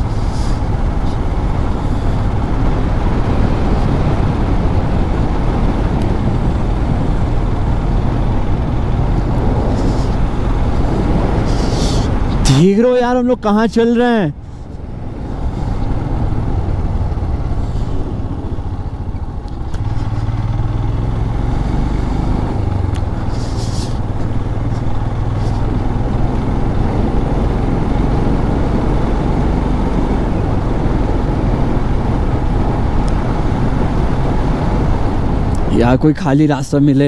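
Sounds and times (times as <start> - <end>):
wind rush on microphone: 0.0 - 12.7, 14.3 - 36.2
motorcycle engine humming: 0.0 - 37.0.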